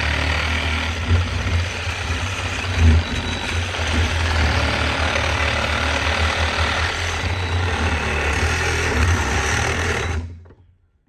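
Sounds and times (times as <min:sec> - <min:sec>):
reciprocating saw cutting metal: 0:00.0 - 0:10.4.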